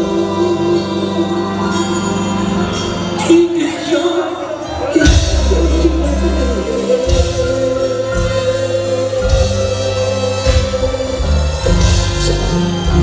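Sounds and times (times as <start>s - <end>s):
live band music: 0.0s - 13.0s
man singing: 0.0s - 13.0s.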